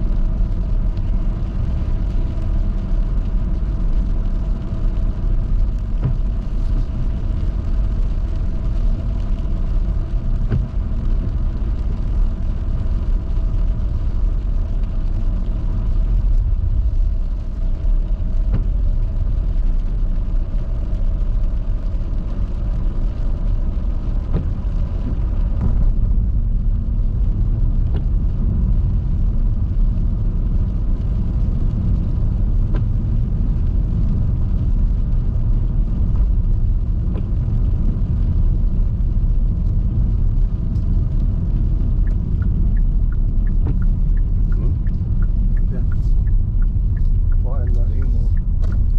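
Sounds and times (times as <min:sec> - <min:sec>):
car driving rumble inside cabin: 0:00.0 - 0:48.9.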